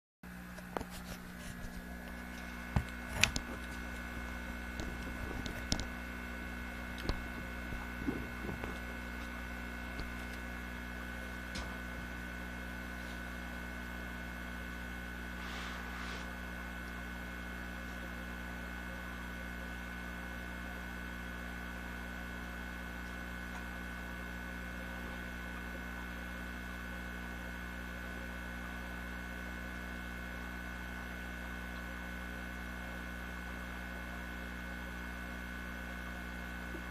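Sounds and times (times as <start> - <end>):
aquarium equipment humming: 0.2 - 36.9.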